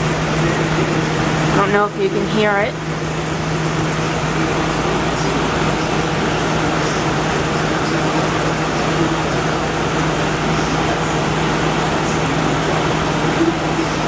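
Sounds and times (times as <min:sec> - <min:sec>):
air conditioner running: 0:00.0 - 0:14.0.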